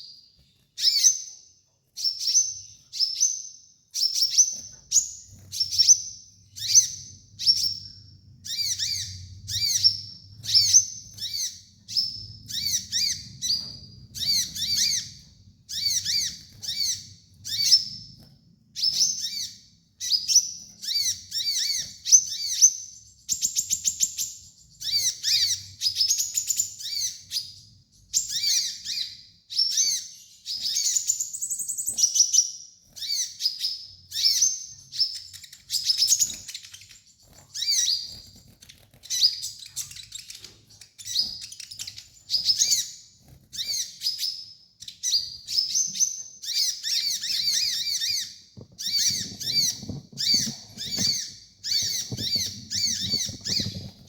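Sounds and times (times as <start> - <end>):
bird chirps and twitters: 0.0 - 54.0.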